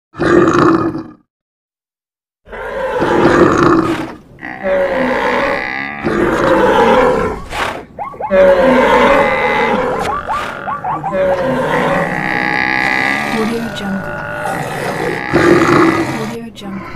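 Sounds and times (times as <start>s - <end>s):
animal roars and grunts: 0.2s - 1.3s, 2.4s - 16.9s.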